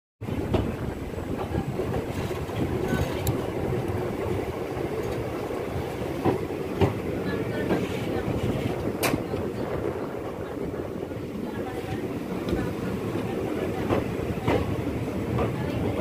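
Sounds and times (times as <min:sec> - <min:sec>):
train rumbling on track: 0:00.2 - 0:16.0.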